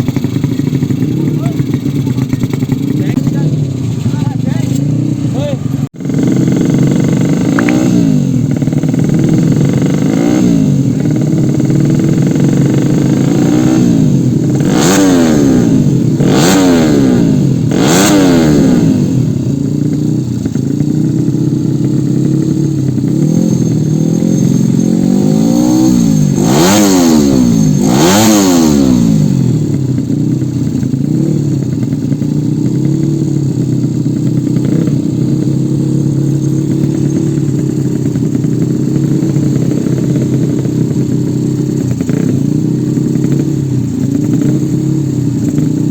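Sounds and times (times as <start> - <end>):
motorcycles revving: 0.0 - 45.9.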